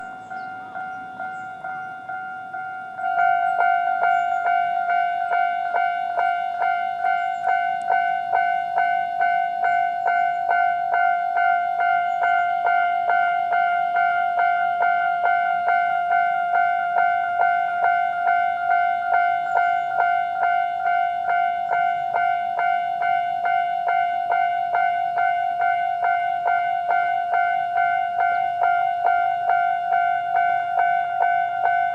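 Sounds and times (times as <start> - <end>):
level crossing warning bell dinging: 0.0 - 31.9.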